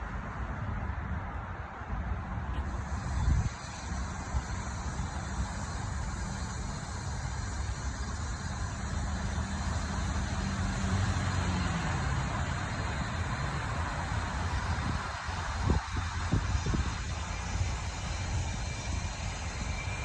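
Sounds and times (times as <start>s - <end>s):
background hiss: 2.5s - 20.0s
vehicle engine running: 2.6s - 20.0s.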